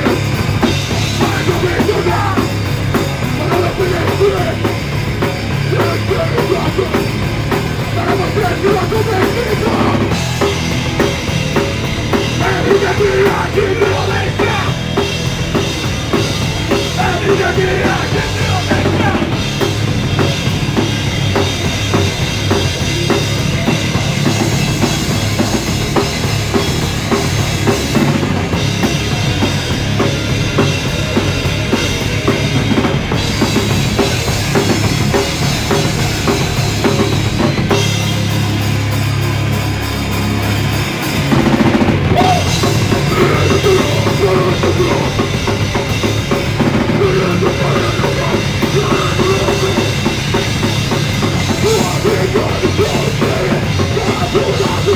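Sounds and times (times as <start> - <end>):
live rock band playing: 0.0 - 54.9
pounding drum kit: 0.0 - 54.9.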